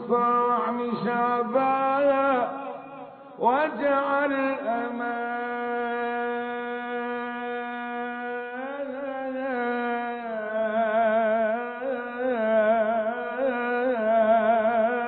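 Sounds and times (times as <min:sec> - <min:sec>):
man chanting melisma: 0:00.0 - 0:15.0.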